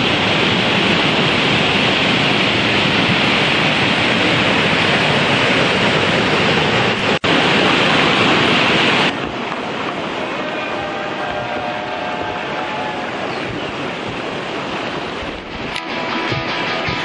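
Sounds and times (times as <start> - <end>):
rushing whitewater rapids: 0.0 - 17.0.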